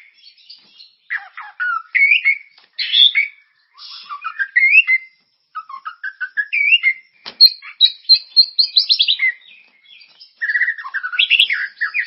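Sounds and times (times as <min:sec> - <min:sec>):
songbird whistling and warbling: 0:00.0 - 0:12.0.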